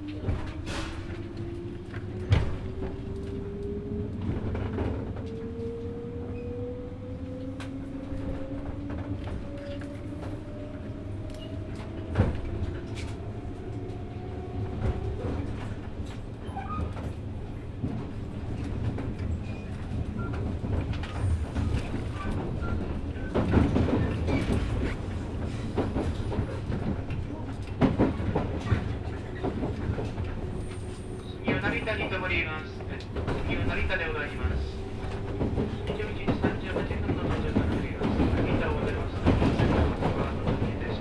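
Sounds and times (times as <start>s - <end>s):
steady train rumble: 0.0s - 41.0s.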